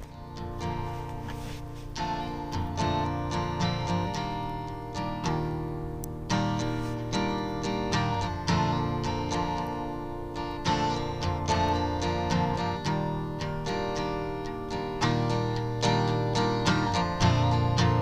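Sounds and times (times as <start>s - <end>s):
acoustic guitar picking chords: 0.0s - 18.0s.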